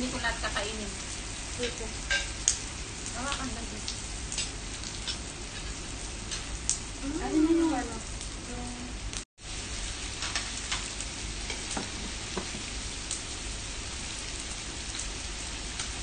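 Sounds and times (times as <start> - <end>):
meat sizzling on a griddle: 0.0 - 16.0.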